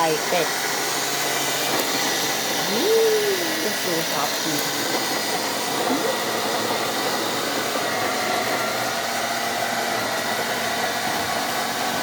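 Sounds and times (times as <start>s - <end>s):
coffee grinder whirring: 0.0s - 12.0s.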